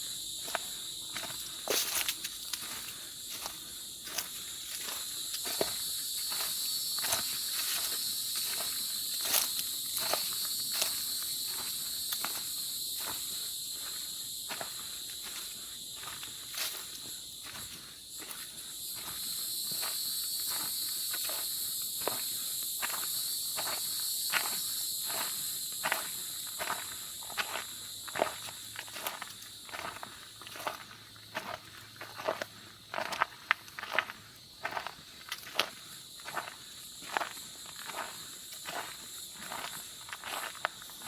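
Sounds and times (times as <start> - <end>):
footsteps on forest trail: 0.0 - 41.0
insects chirping: 0.0 - 41.0.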